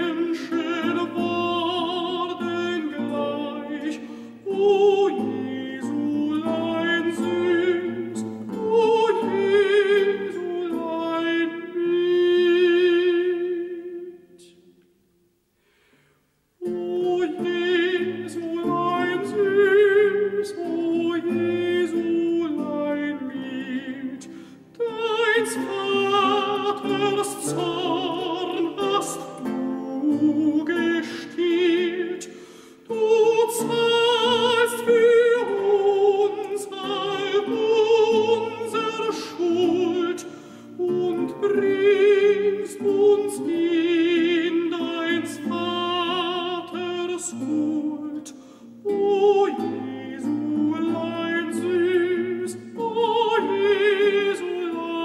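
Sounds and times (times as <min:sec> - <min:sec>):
operatic solo singing: 0:00.0 - 0:14.7, 0:16.6 - 0:55.0.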